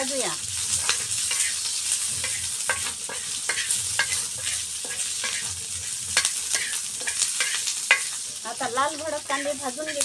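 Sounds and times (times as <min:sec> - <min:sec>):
onions sizzling in a pan: 0:00.0 - 0:10.0
spatula scraping a pan: 0:00.6 - 0:10.0.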